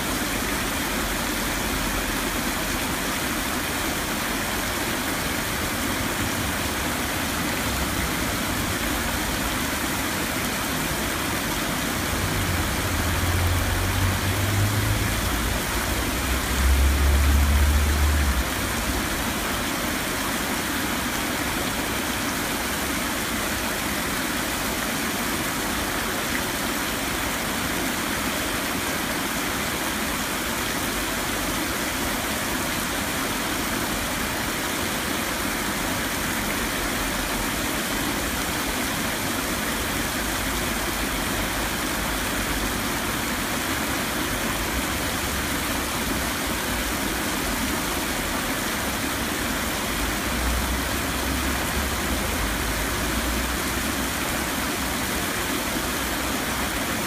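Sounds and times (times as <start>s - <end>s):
heavy rain splashing on water: 0.0s - 57.0s
runoff water flowing: 0.0s - 57.0s.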